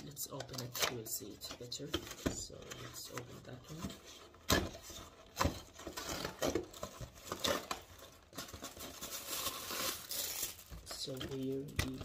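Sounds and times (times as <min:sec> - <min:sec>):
cardboard rustling and scraping: 0:00.6 - 0:12.0.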